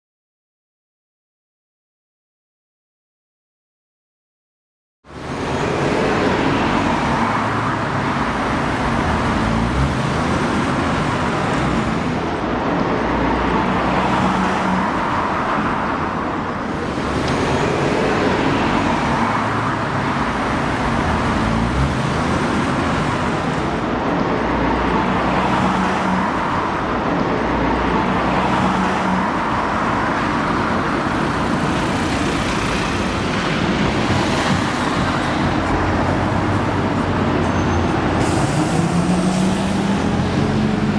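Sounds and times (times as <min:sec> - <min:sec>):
cars passing on city road: 0:05.0 - 0:40.9.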